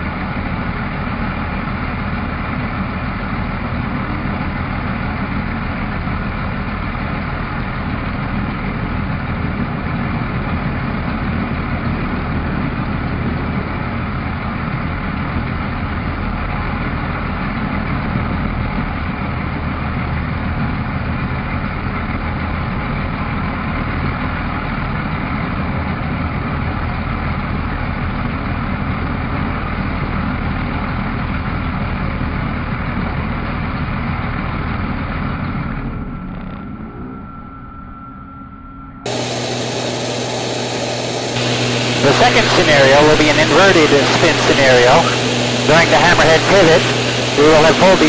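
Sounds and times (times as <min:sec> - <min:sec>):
airplane engine and propeller drone: 0:00.0 - 0:48.0.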